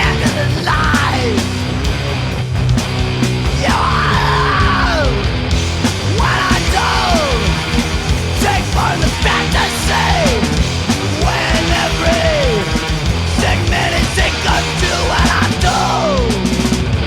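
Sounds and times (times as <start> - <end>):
hardcore punk band playing: 0.0 - 17.0.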